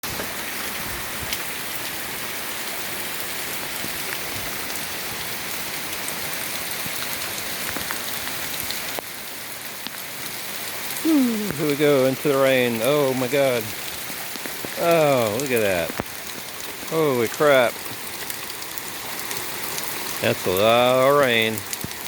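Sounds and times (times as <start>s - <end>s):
heavy rain falling: 0.0s - 22.0s
raindrops tapping close by: 0.0s - 22.0s.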